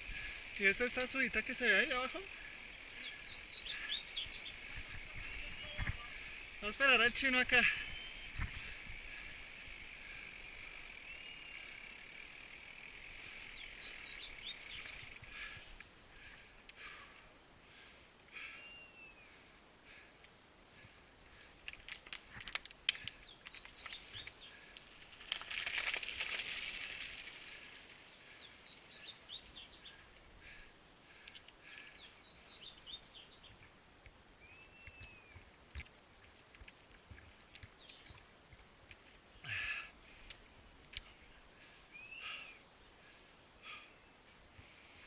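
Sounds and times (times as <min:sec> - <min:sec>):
birds chirping: 0:00.0 - 0:21.6, 0:23.1 - 0:25.1, 0:26.8 - 0:33.7, 0:34.4 - 0:35.6, 0:37.5 - 0:45.0.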